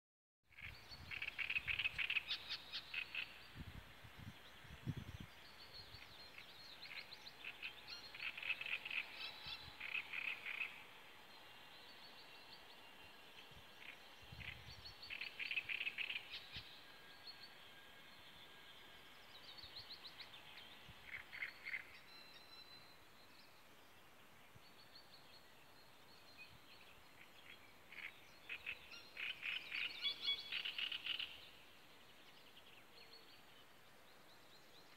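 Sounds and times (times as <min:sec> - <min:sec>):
reed warbler singing: 0:00.5 - 0:34.9.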